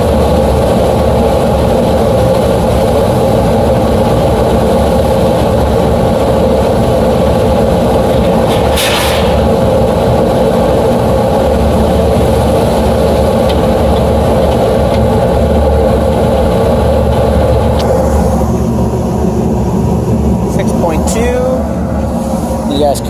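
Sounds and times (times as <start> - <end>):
gas furnace humming: 0.0 - 23.0.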